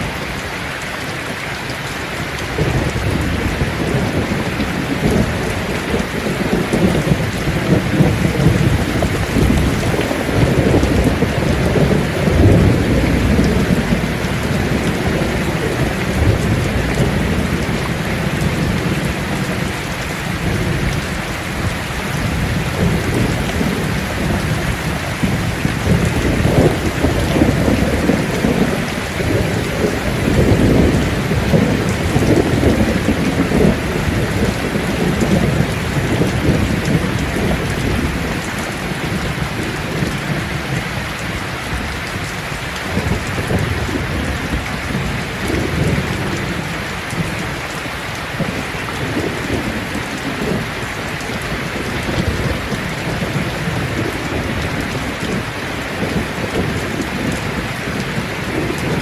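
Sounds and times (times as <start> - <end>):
heavy rain on leaves: 0.0 - 59.0.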